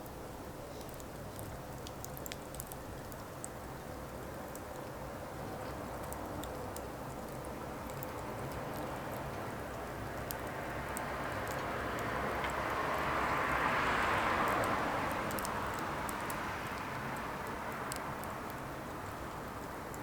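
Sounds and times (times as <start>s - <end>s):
firewood crackling and popping: 0.8s - 20.0s.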